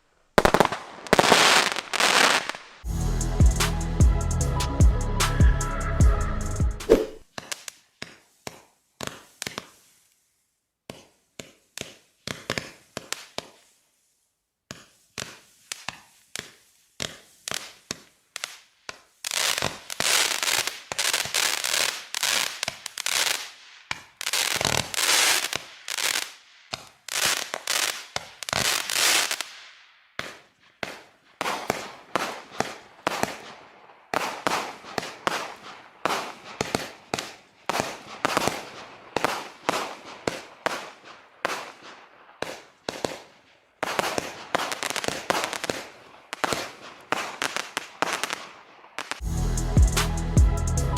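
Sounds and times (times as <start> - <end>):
fireworks popping and crackling: 0.0 - 2.9, 6.9 - 10.1, 10.9 - 13.8, 14.7 - 49.2.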